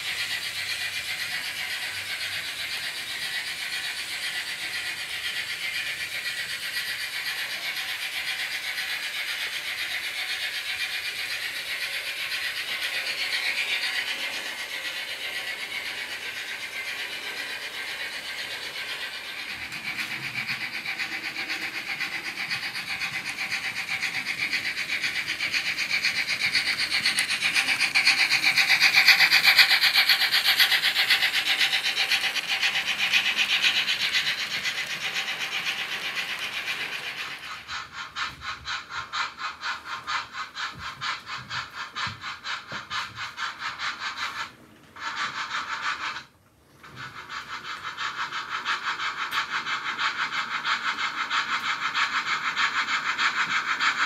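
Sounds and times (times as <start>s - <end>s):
model train rhythmic clicking: 0.0s - 54.0s.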